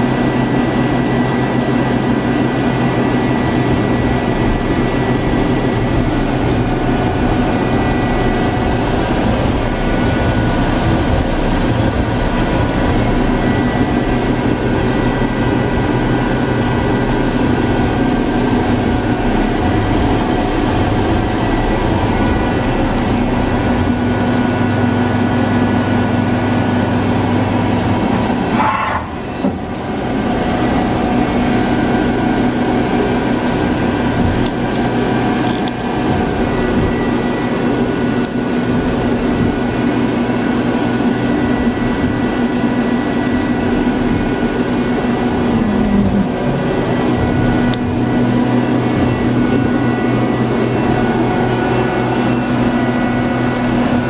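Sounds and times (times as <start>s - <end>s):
lathe mechanical hum: 0.0s - 54.0s.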